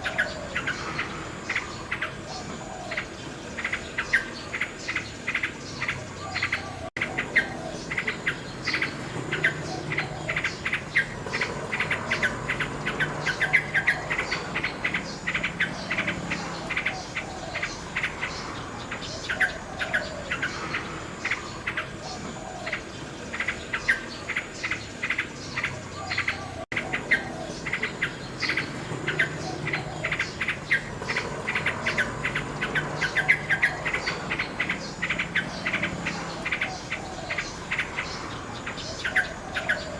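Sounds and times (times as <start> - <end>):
insects chirping: 0.0 - 39.9
nightingale singing: 0.0 - 39.9.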